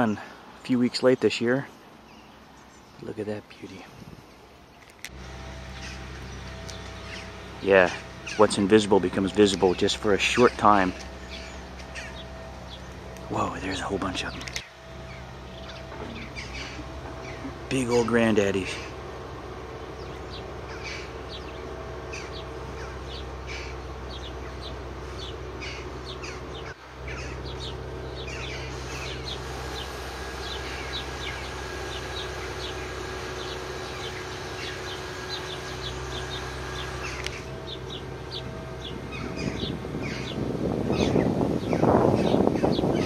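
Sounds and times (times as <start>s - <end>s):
small birds chirping: 0.0s - 43.0s
steady low hum: 0.0s - 43.0s.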